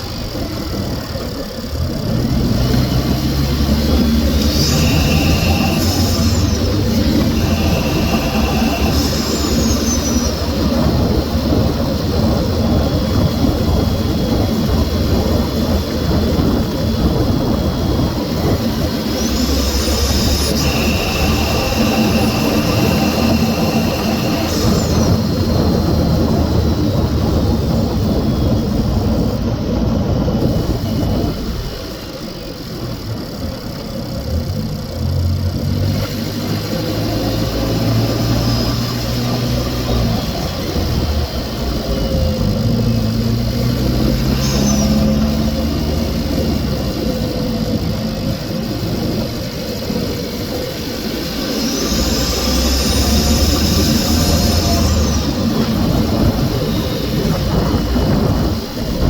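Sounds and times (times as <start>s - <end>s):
car engine running: 0.0s - 59.0s
faint high whine: 0.0s - 59.0s.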